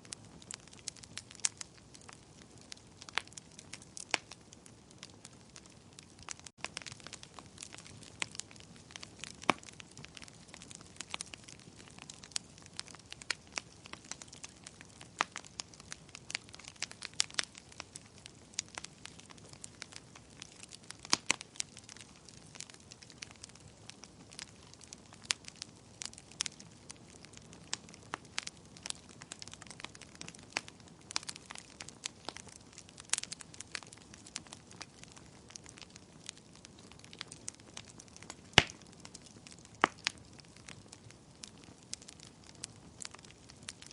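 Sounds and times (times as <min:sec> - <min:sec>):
soft steady hiss: 0:00.0 - 0:43.9
wood fire crackling and popping: 0:00.0 - 0:43.9.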